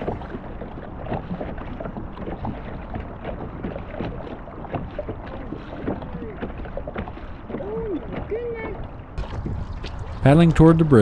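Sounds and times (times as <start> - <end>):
paddle splashing in water: 0.0 - 11.0
water sloshing around hull: 0.0 - 11.0.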